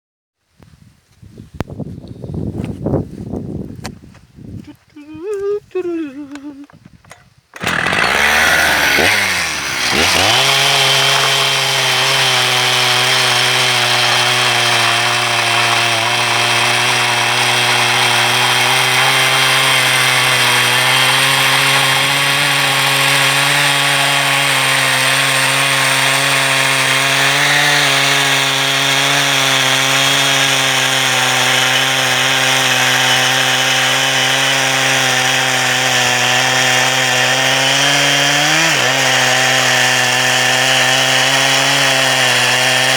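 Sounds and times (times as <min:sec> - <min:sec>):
chainsaw cutting wood: 0:05.2 - 0:42.9.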